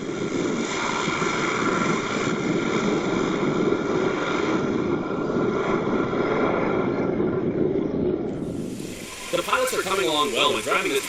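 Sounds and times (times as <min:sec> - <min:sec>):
aircraft engines rushing: 0:00.0 - 0:11.0
high whining tones: 0:00.0 - 0:11.0.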